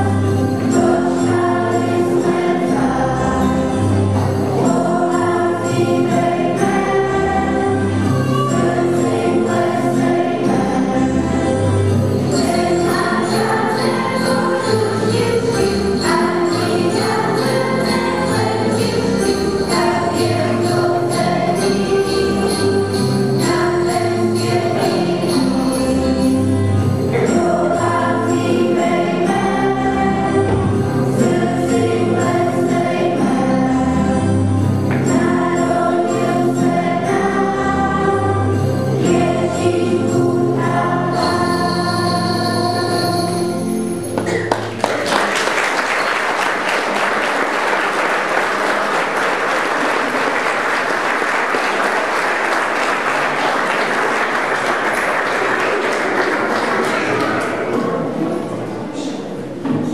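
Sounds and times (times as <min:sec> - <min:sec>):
instrumental accompaniment: 0:00.0 - 0:58.7
children's choir singing: 0:00.0 - 0:59.9.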